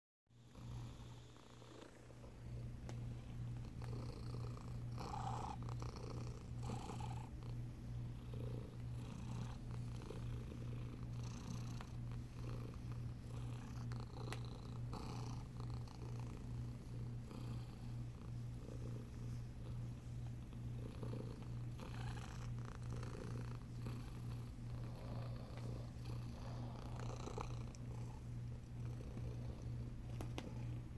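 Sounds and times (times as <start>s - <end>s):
cat purring: 0.4s - 30.9s.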